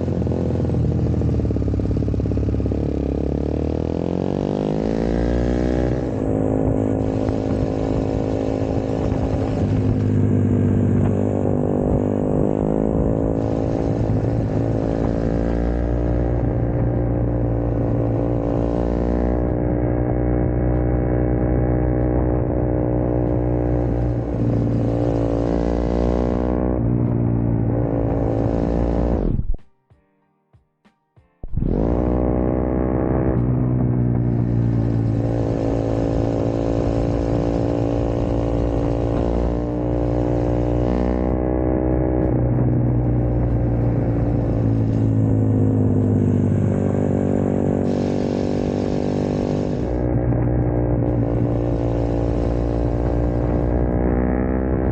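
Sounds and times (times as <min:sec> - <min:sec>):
motorcycle engine running: 0:00.0 - 0:29.5, 0:31.4 - 0:54.9.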